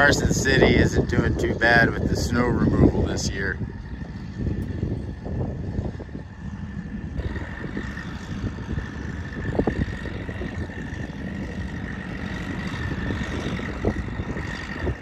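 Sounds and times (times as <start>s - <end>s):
continuous high whine: 0.0s - 15.0s
vehicle engine running: 0.0s - 15.0s.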